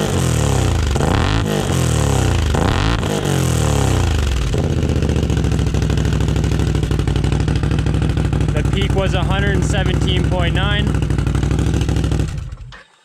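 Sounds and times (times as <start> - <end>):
atv engine revving and idling: 0.0 - 12.8.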